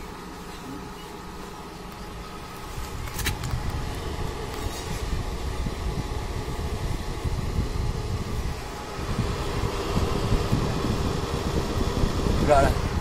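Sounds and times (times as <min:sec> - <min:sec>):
vending machine fan and motor hum: 0:00.0 - 0:13.0.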